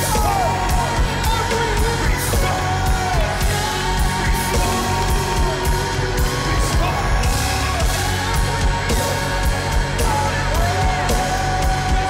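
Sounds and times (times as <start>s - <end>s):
band with steady drum beat: 0.0s - 12.0s.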